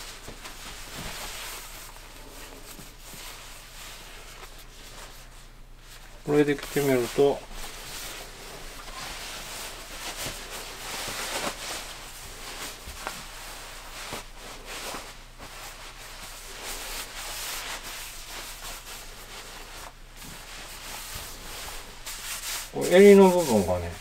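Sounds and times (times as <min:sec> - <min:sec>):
nylon fabric rustling: 0:00.0 - 0:24.0.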